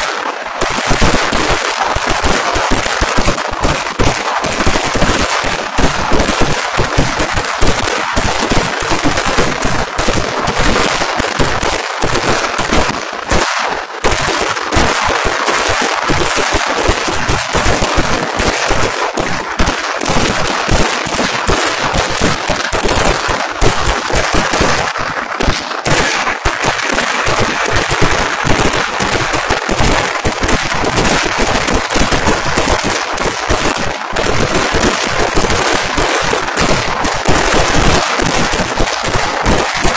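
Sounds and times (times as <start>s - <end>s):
rapid fireworks barrage: 0.0s - 39.9s.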